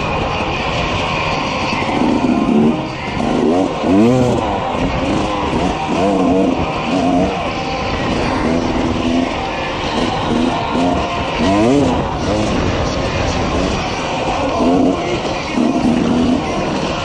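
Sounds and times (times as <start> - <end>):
dirt bike engine revving: 0.0 - 17.0
steady rushing noise: 0.0 - 17.0.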